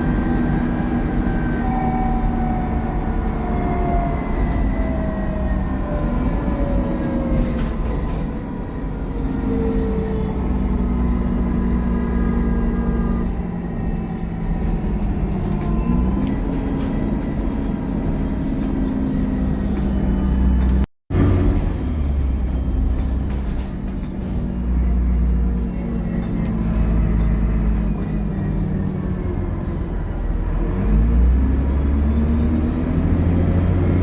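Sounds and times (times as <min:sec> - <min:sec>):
bus engine whine: 0:00.0 - 0:34.0.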